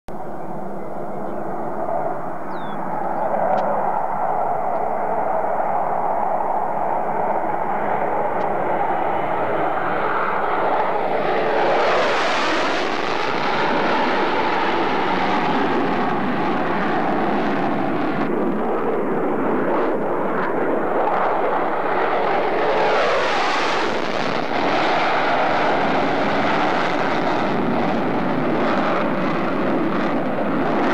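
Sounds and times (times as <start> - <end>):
jet engines in afterburner: 0.1 - 30.9
jet passing with falling pitch: 0.1 - 30.9.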